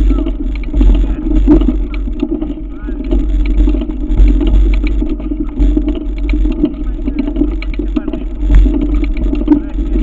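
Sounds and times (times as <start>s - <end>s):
bike rattling over stones: 0.0s - 10.0s
wind rumbling on microphone: 0.0s - 10.0s.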